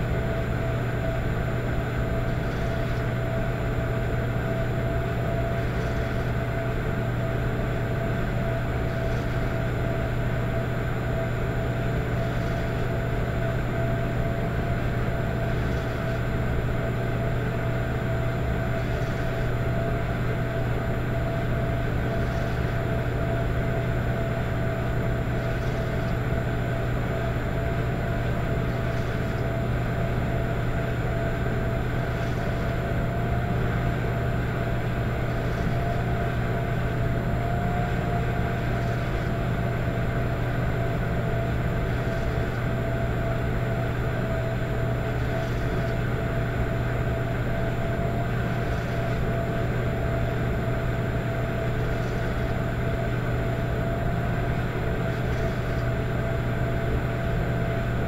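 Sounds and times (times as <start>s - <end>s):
electric fireplace humming: 0.0s - 58.0s.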